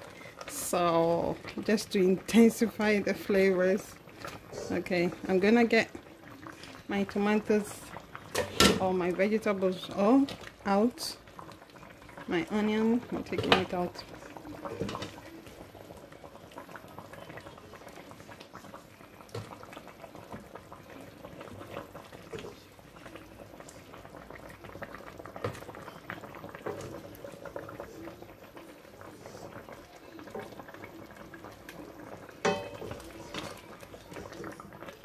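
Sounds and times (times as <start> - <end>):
soup boiling and bubbling: 0.0 - 35.0
wooden spoon stirring soup: 3.9 - 35.0.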